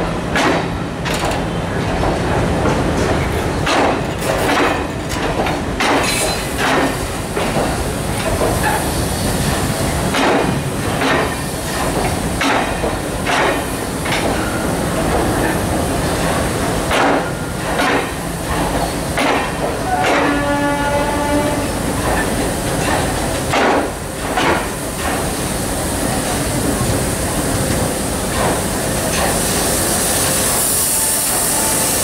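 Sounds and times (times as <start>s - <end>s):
train coaches rumbling: 0.0s - 32.0s.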